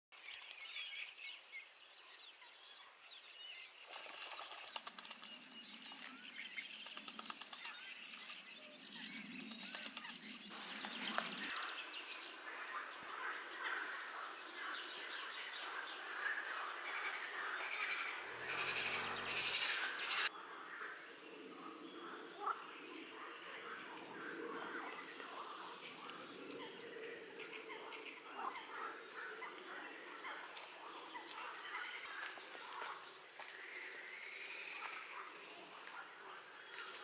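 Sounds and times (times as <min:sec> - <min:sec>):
songbirds chirping and singing: 0:00.2 - 0:37.0.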